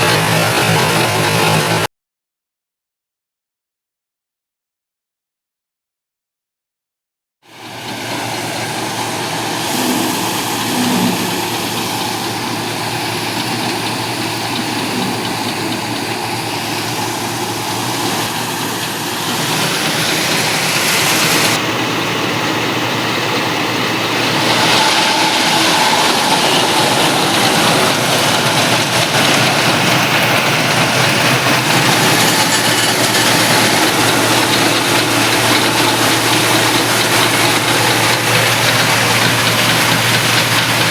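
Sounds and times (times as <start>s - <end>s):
tractor diesel engine running: 0.0s - 1.9s, 7.5s - 40.9s.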